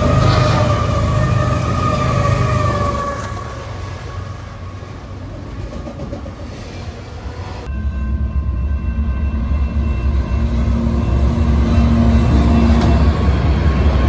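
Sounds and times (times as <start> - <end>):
diesel locomotive engine hum: 0.0 - 14.0.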